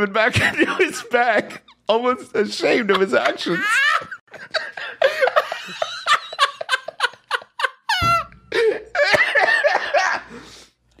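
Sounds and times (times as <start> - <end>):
men laughing hard: 0.4 - 1.9, 2.6 - 10.4.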